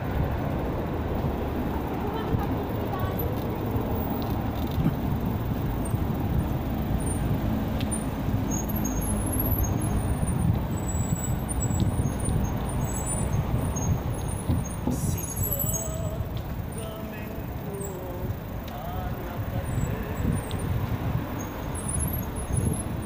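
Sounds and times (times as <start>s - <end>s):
bicycle tyre and road noise: 0.0s - 23.0s
wind rushing over microphone: 0.0s - 23.0s.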